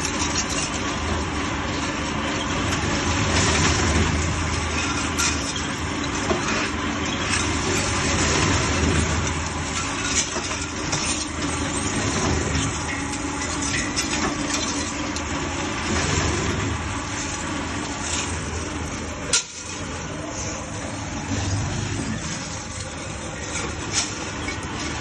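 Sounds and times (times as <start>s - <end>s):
machine running: 0.0s - 25.0s.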